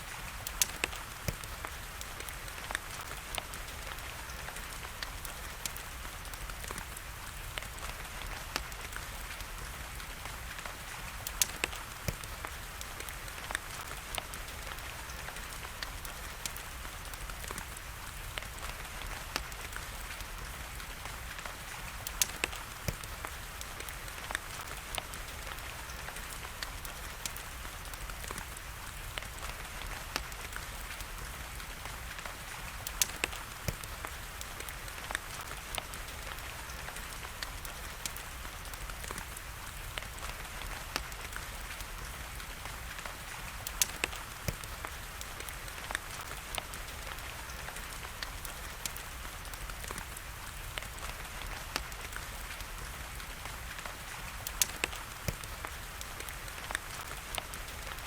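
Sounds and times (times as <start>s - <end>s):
rain falling: 0.0s - 58.0s
wood fire crackling and popping: 0.0s - 58.0s.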